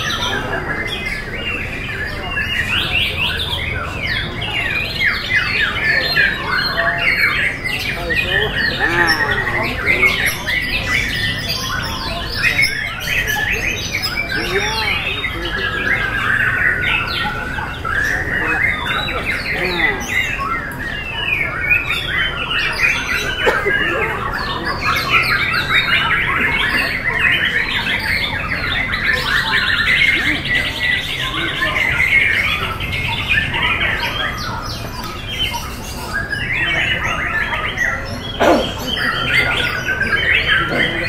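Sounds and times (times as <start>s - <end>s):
fast rattling bird trill: 0.0s - 41.0s
songbirds singing in chorus: 0.0s - 41.0s.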